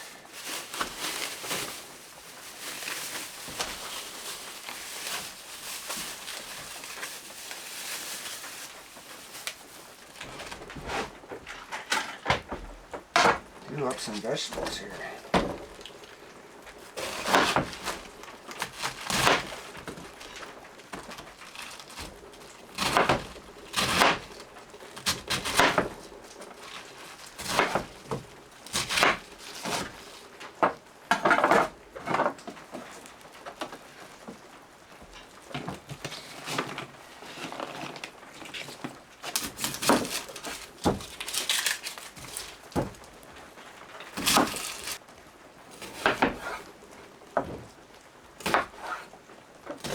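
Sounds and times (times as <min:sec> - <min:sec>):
handling noise: 0:00.0 - 0:45.2.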